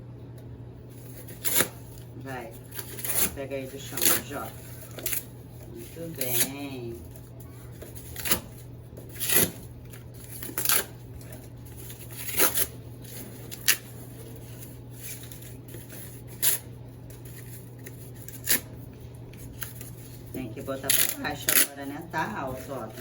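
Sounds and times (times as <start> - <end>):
cardboard rustling and scraping: 1.0 - 20.4.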